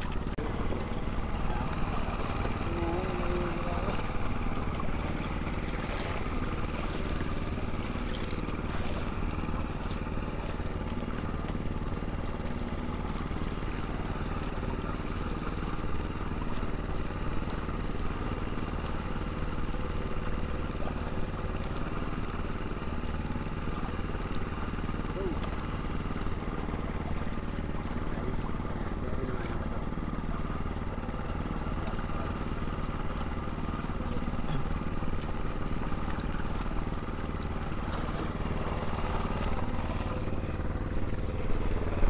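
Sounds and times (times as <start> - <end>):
boat engine running: 0.0 - 42.0
light splashes: 0.0 - 42.0
water sloshing: 0.0 - 42.0.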